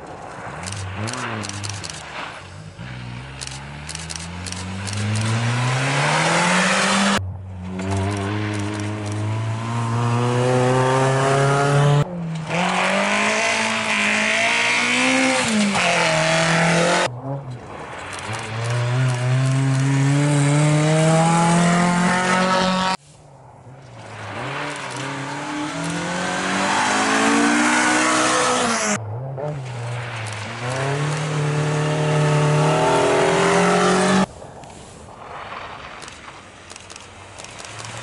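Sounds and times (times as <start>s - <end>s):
tyre and road noise: 0.0s - 38.0s
rally cars accelerating hard: 0.9s - 23.0s, 24.0s - 34.3s.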